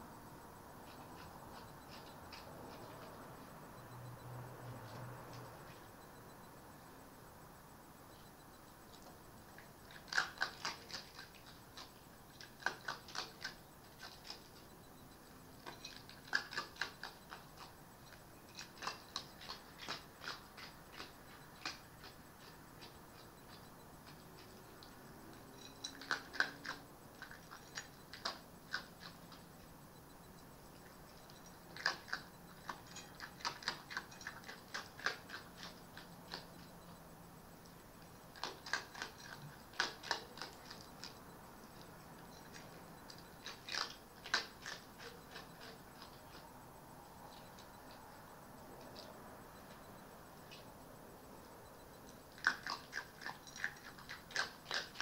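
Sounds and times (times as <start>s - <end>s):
fox crunching food: 0.8s - 3.6s, 8.9s - 14.7s, 15.3s - 29.8s, 30.4s - 36.8s, 37.6s - 50.8s, 52.0s - 55.0s.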